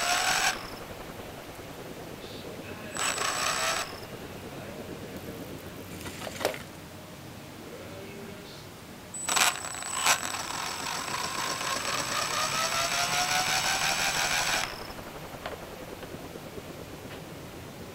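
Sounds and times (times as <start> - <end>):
rc helicopter motor whining: 0.0 - 6.7, 9.2 - 17.9.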